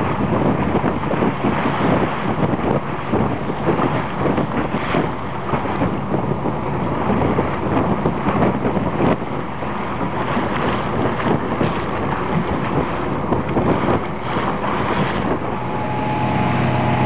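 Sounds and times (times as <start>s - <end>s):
choppy sea water washing: 0.0s - 17.0s
wind buffeting microphone: 0.0s - 17.0s.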